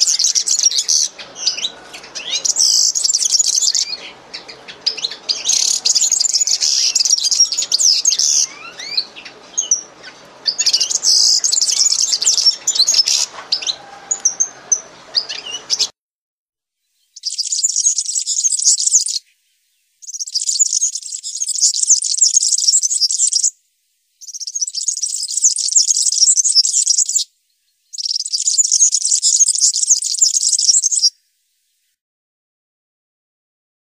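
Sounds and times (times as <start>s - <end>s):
small birds chirping: 0.0s - 15.9s, 16.9s - 23.6s, 24.2s - 31.9s.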